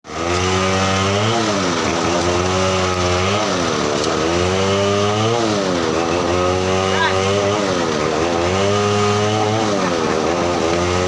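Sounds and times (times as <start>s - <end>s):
engine running under load: 0.1s - 11.0s.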